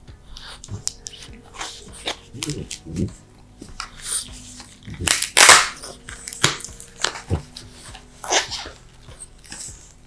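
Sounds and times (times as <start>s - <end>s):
faint background music: 0.0s - 10.0s
dog sniffing: 0.3s - 5.0s, 5.6s - 10.0s.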